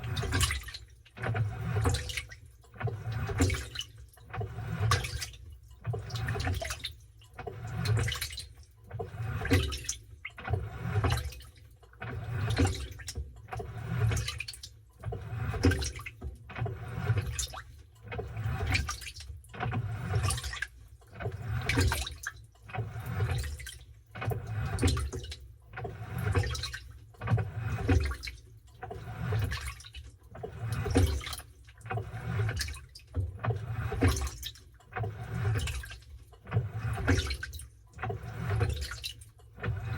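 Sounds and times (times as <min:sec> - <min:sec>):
washing machine sloshing: 0:00.0 - 0:39.9.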